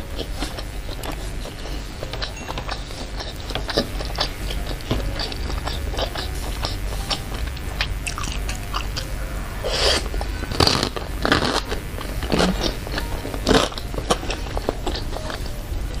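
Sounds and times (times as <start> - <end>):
mouth chewing with wet clicks: 0.0 - 9.1, 9.7 - 16.0.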